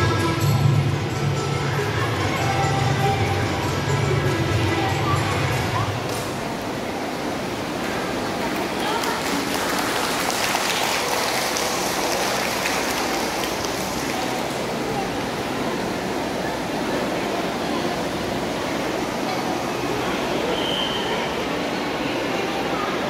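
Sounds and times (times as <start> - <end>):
crowded hall noise: 0.0 - 23.0
indistinct voices: 0.0 - 23.0.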